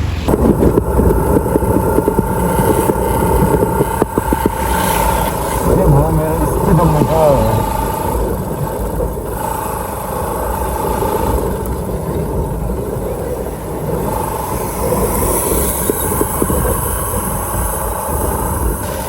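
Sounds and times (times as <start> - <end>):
wind rumble on microphone: 0.0 - 19.0
motorcycle engine running: 0.3 - 19.0.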